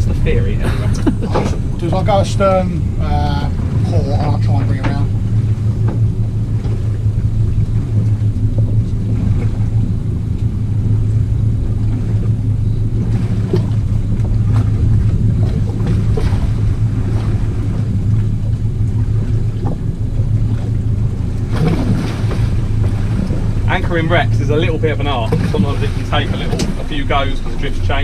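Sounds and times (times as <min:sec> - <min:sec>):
motorboat engine humming: 0:00.0 - 0:28.0.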